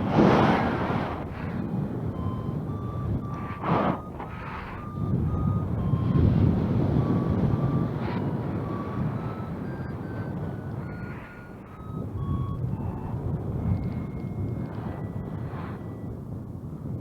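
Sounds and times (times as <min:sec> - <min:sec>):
wind rushing on microphone: 0:00.0 - 0:17.0
variometer beeping: 0:01.2 - 0:16.5.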